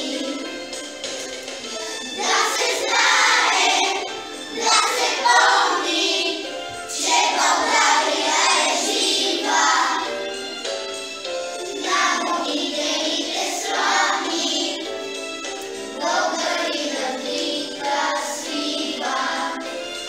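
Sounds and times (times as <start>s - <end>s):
children's choir singing: 0.0s - 20.0s
instrumental backing: 0.0s - 20.0s.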